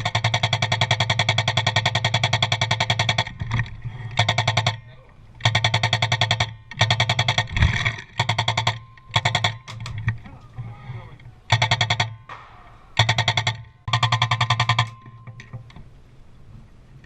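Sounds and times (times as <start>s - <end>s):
gearbox hum: 0.0s - 17.0s.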